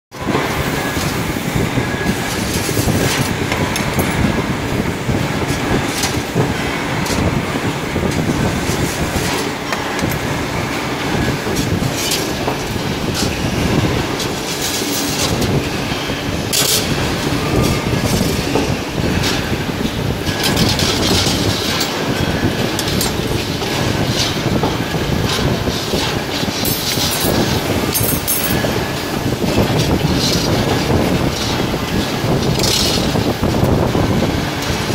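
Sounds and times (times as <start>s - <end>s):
wire bending machine running: 0.1s - 34.9s
machine clicks and clacks: 0.2s - 34.9s.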